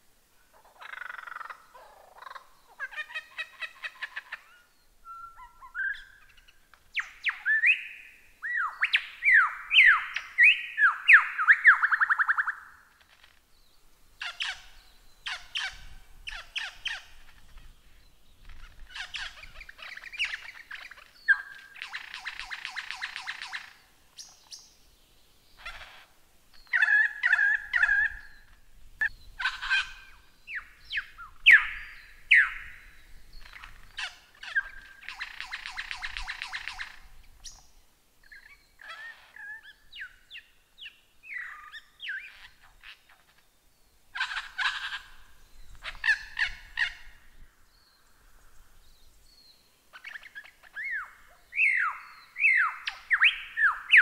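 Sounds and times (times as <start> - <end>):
lyrebird singing: 0.5 - 24.8, 25.6 - 54.0.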